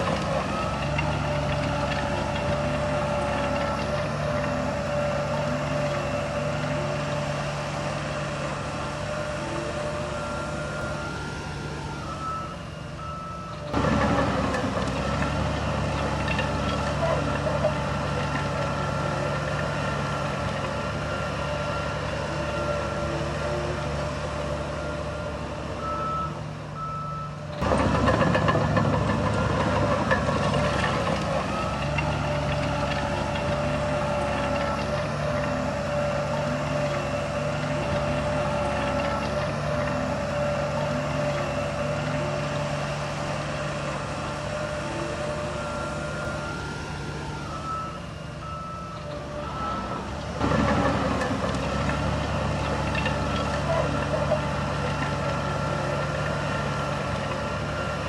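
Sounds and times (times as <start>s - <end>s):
heavy machinery diesel engines: 0.0s - 58.0s
reversing alarm beeping: 0.4s - 14.1s, 15.9s - 50.2s.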